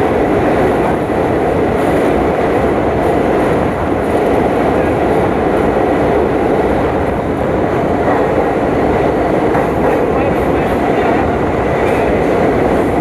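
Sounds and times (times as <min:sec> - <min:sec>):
clickety-clack of track: 0:00.0 - 0:13.0
train wheels rumbling on rails: 0:00.0 - 0:13.0.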